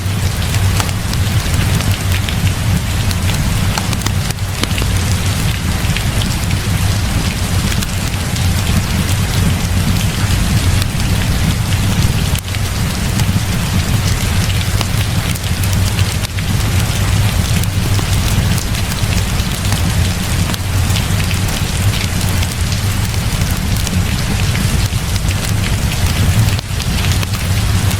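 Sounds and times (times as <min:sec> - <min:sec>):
continuous low rumble: 0:00.0 - 0:27.9
heavy rain hiss: 0:00.0 - 0:27.9
sharp ticks of raindrops: 0:00.0 - 0:27.9.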